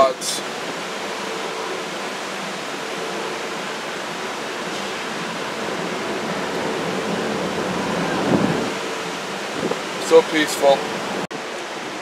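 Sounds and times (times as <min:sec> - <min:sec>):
rushing ship wake water: 0:00.0 - 0:12.0.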